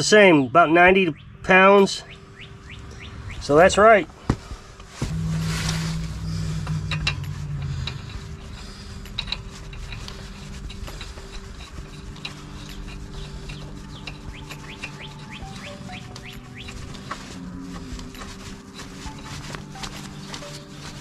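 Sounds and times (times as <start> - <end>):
birds chirping: 0.0 - 21.0
steady low drone: 0.0 - 21.0.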